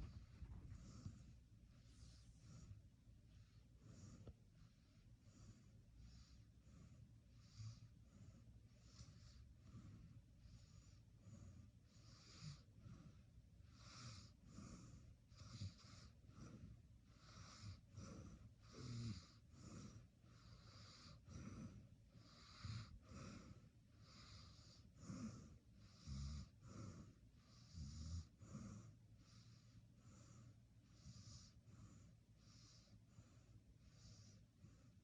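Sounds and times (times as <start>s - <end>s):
wheezy sleeping breathing: 0.0s - 35.0s
low snores: 5.2s - 35.0s.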